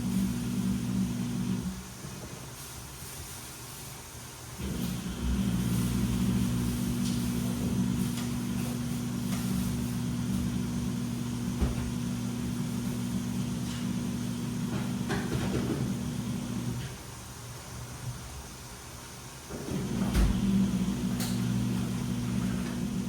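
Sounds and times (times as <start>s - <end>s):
washing machine motor humming: 0.0s - 2.6s, 4.4s - 23.0s.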